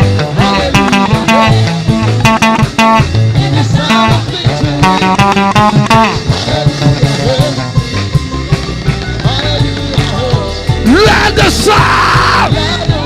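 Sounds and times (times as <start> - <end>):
gospel band music: 0.0 - 13.0
people singing: 0.0 - 13.0
plucked guitar notes: 0.0 - 13.0.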